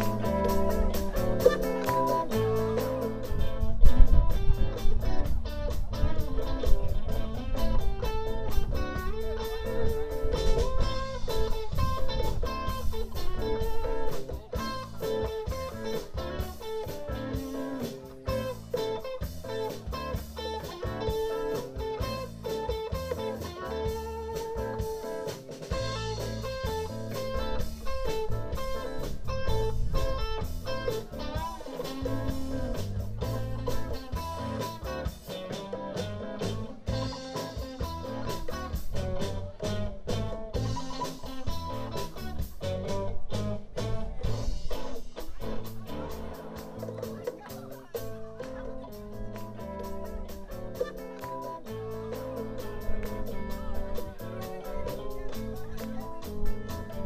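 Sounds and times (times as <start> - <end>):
bass guitar: 0.0 - 57.0
drum kit: 0.0 - 57.0
electric guitar lead line: 0.0 - 57.0.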